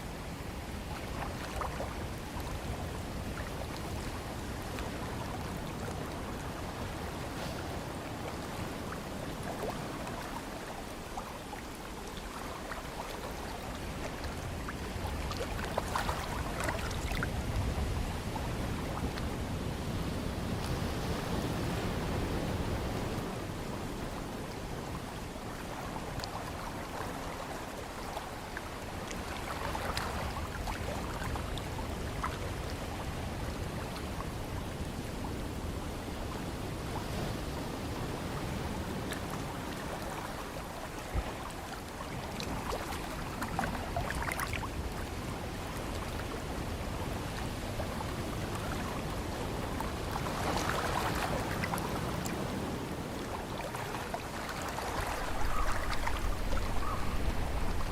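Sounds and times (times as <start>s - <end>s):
ocean waves washing: 0.0s - 57.9s.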